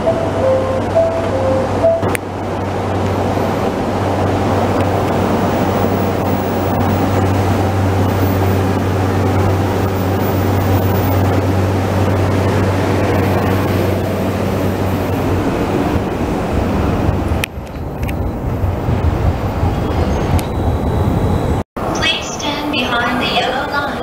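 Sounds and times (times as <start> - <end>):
electric train hum: 0.0 - 24.0
train rumble: 0.0 - 24.0.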